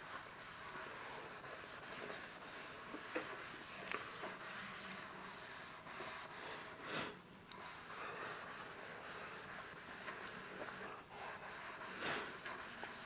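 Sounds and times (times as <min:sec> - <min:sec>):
soapy sponges squeezed and rubbed: 0:00.0 - 0:13.0.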